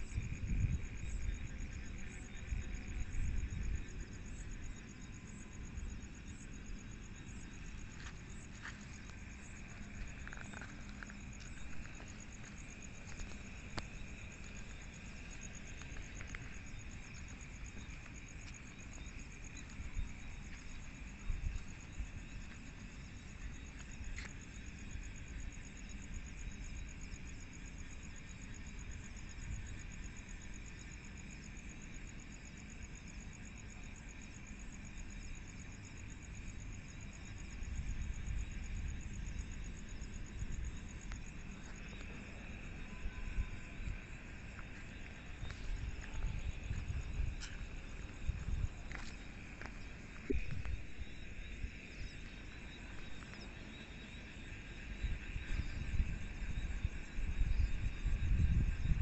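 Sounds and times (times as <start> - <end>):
crickets trilling: 0.0 - 59.0
low continuous insect buzz: 0.0 - 59.0.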